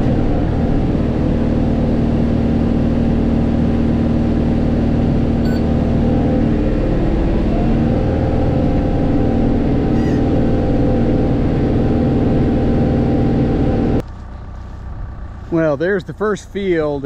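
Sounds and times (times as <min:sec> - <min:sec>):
low rumble: 0:00.0 - 0:17.0
tractor and baler droning: 0:00.0 - 0:17.0.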